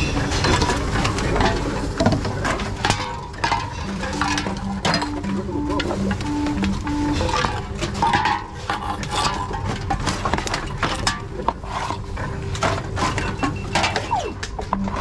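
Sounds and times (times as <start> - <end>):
cans clanking in vending machine: 0.0 - 14.1.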